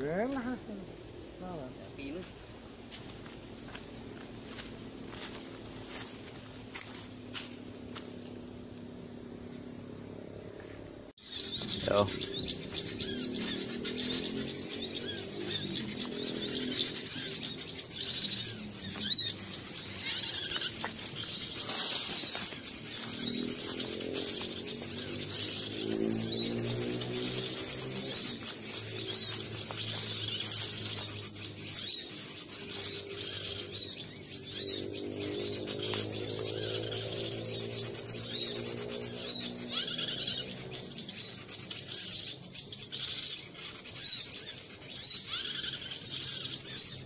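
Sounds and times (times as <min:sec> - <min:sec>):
birds and insects chirping: 0:00.0 - 0:47.0
lower repeated calls: 0:00.0 - 0:47.0.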